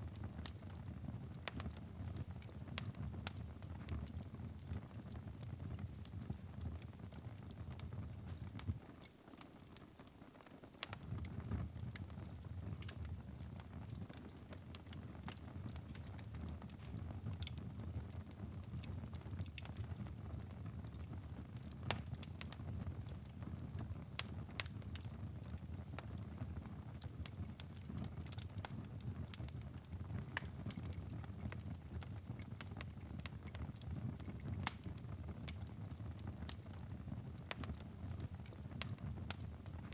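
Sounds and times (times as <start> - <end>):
fire crackling and popping: 0.0 - 39.9
low rumble of flames: 0.1 - 8.8, 10.8 - 39.9.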